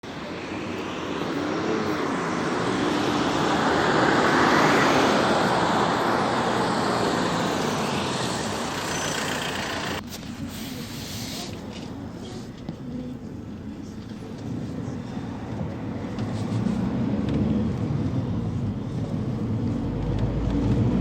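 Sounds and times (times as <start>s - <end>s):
minibus engine and road noise: 0.0s - 21.0s.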